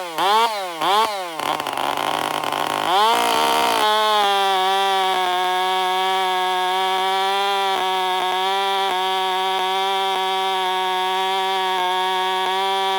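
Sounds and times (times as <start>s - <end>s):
chainsaw noise: 0.0s - 12.9s.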